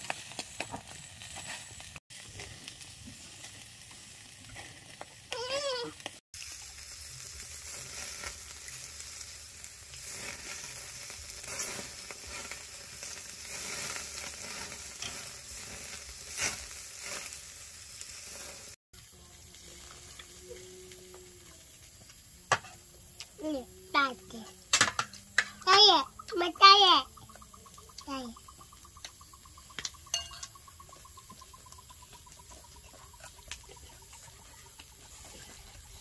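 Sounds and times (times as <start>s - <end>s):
meat sizzling on a grill: 0.0s - 36.0s.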